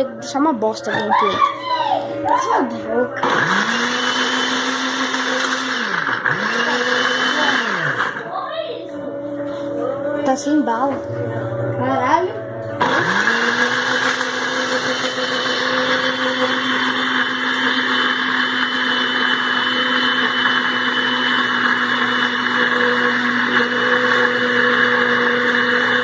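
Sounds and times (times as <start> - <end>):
electric blender running: 0.8 - 8.3, 11.7 - 26.0.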